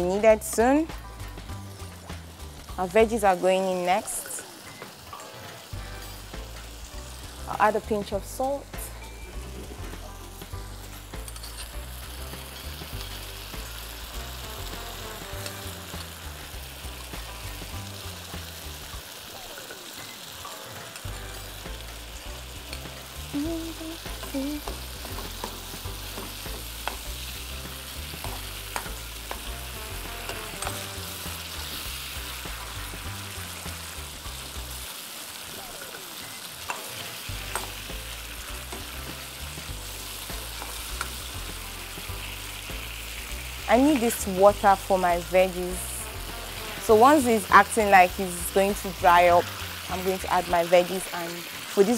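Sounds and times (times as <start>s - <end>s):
sauce sizzling in a frying pan: 0.0s - 51.9s.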